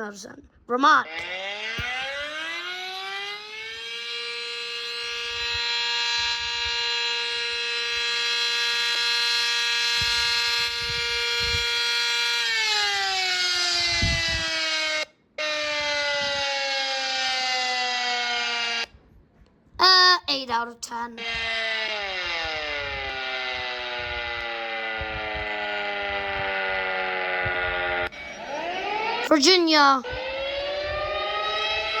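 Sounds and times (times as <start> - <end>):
buzzy siren tone: 0.7 - 19.0, 21.1 - 32.0.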